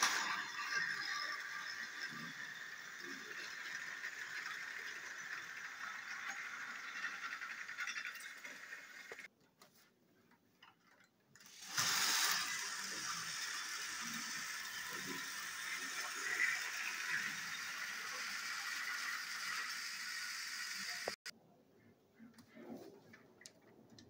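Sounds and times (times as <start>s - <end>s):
toy train clatter: 0.0s - 9.3s, 10.6s - 21.3s
toy train motors whirring: 0.0s - 9.3s, 11.4s - 21.3s.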